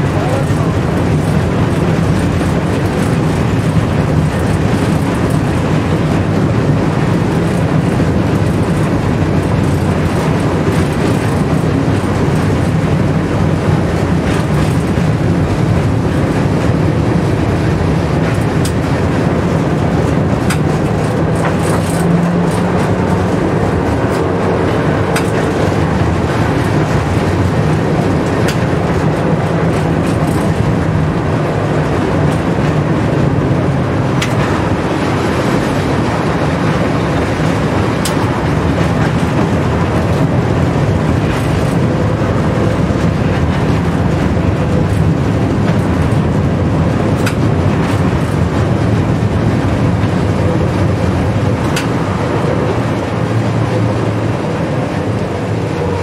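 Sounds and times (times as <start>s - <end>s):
tram wheels rumbling: 0.0s - 56.0s.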